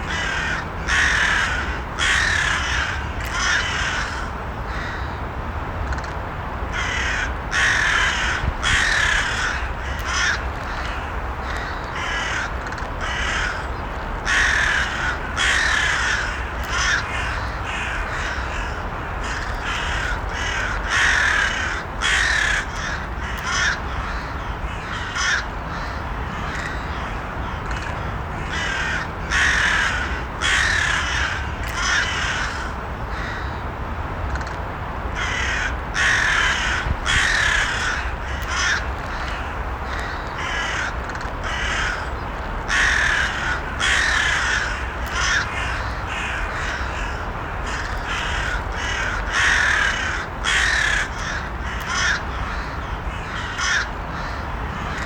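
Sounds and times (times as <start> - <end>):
crows cawing: 0.0 - 5.2, 6.7 - 33.6, 35.2 - 55.0
low background noise: 0.0 - 55.0.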